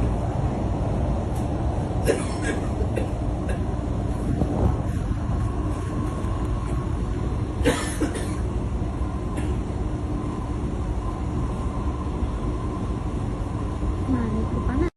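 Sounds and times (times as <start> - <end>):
train carriage rumble: 0.0 - 14.9.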